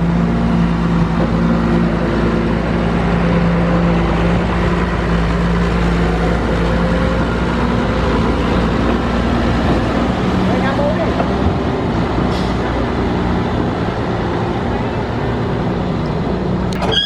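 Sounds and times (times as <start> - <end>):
construction machine engine humming: 0.0 - 17.0.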